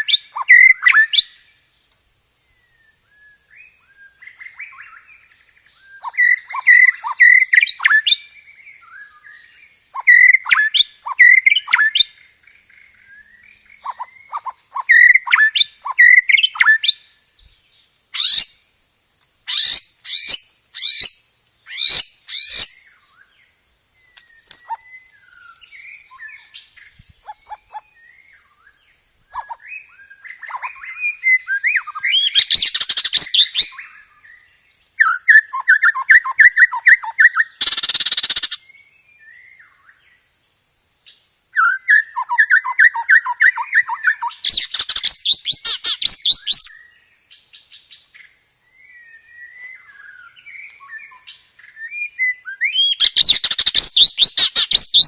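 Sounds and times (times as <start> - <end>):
faint high-pitched hiss: 0.0 - 55.0
songbird singing: 0.0 - 55.0.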